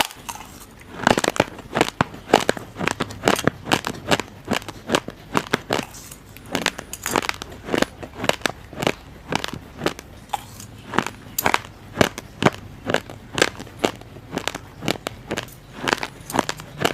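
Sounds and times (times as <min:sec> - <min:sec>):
chewing crunchy rice grains: 0:00.0 - 0:16.9.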